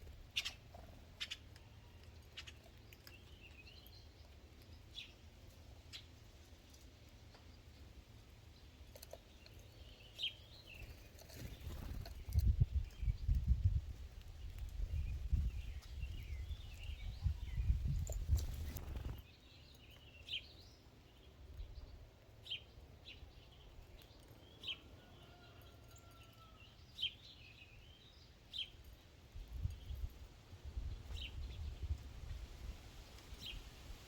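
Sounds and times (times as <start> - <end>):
songbirds twittering: 0.0 - 34.0.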